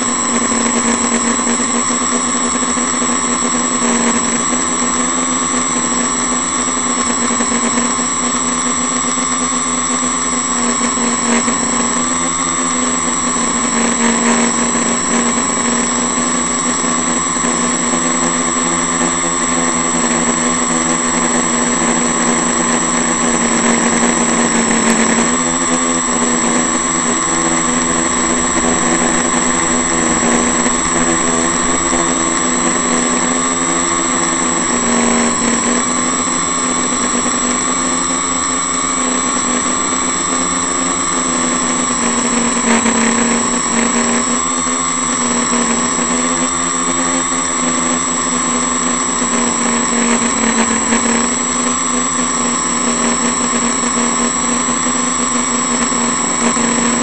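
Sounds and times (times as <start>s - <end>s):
high-pitched propeller whine: 0.0s - 57.0s
quadcopter motors hovering: 0.0s - 57.0s.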